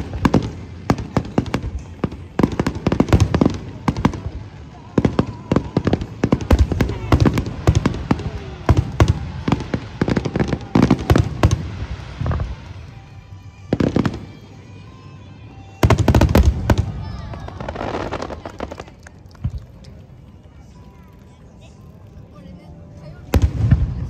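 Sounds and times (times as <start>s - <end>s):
fireworks bangs and crackles: 0.0s - 20.2s, 23.2s - 24.0s.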